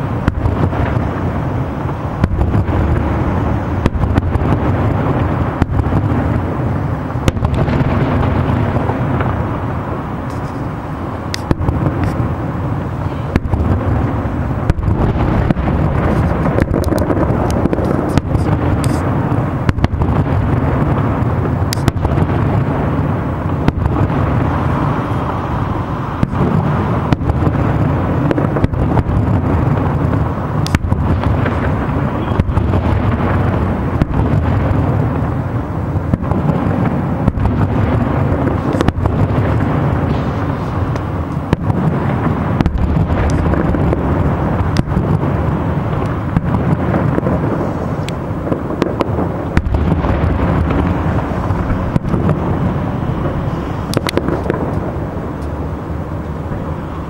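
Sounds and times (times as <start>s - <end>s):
firework shells bursting: 0.0s - 57.0s
low rumble of booms: 0.0s - 57.0s.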